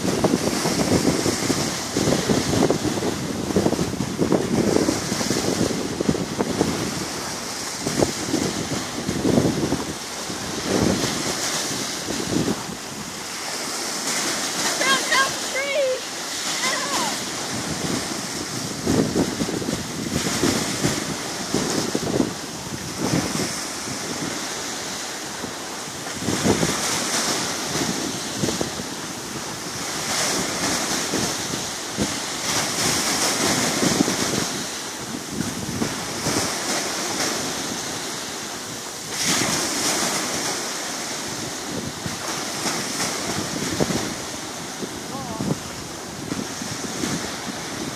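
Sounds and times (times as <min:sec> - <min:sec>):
waves breaking on shore: 0:00.0 - 0:47.9
wind buffeting microphone: 0:00.0 - 0:47.9.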